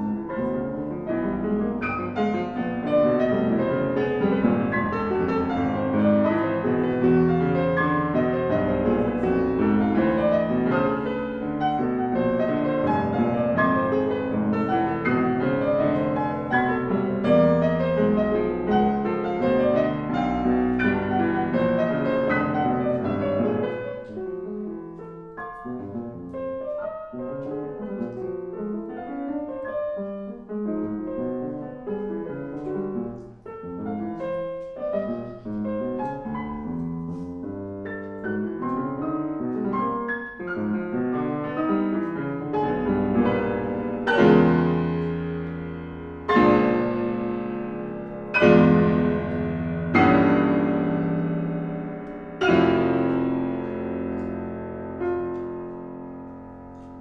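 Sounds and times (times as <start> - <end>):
piano playing: 0.0 - 57.0.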